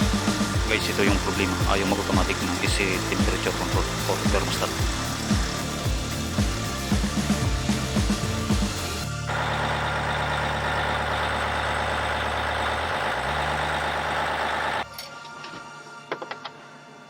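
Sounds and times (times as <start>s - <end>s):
bulldozer diesel engine running: 0.0s - 14.8s.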